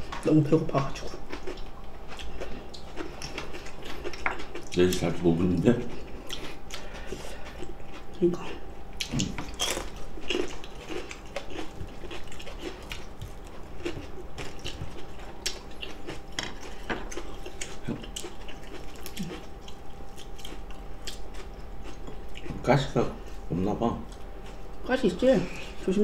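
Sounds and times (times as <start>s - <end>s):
chewing: 0.1s - 5.2s, 5.8s - 22.6s.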